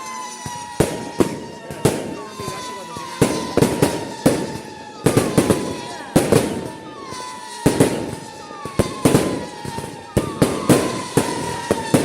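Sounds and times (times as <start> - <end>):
fireworks bangs with crackling: 0.0 - 12.0.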